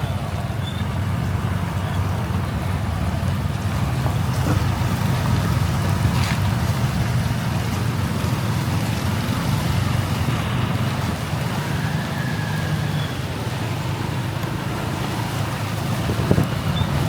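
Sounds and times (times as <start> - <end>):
motorbike engine and wind rumble: 0.0 - 17.0
rain hiss on wet road: 0.1 - 17.0.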